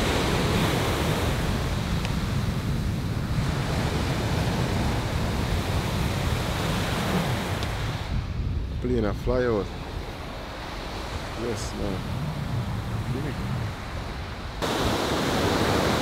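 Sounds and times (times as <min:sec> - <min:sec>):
surf washing on shore: 0:00.0 - 0:16.0
wind rumbling on microphone: 0:00.0 - 0:16.0.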